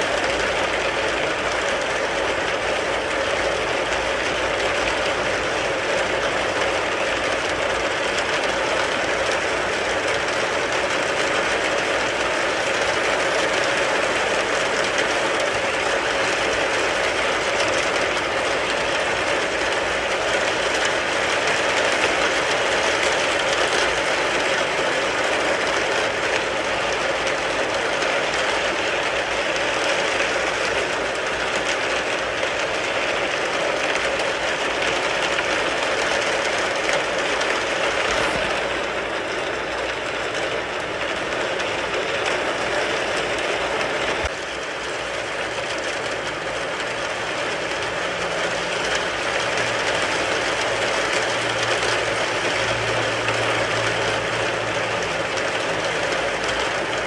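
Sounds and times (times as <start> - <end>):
rain falling on a car: 0.0 - 37.1, 41.0 - 57.0.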